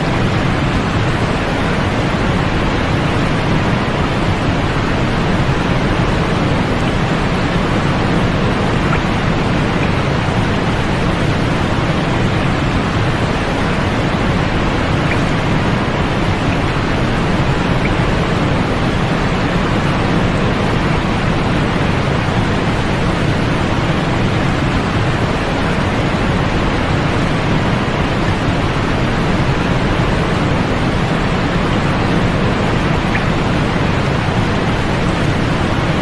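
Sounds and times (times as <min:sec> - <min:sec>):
white noise hiss: 0:00.0 - 0:36.0.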